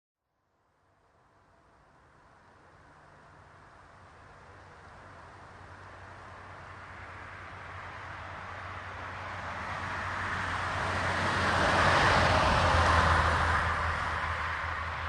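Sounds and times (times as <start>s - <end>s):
car passing on asphalt: 1.8s - 15.0s.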